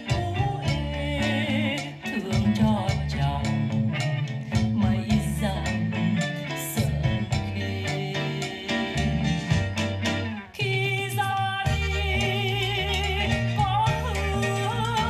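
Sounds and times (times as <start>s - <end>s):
ballad over loudspeakers: 0.0s - 15.0s.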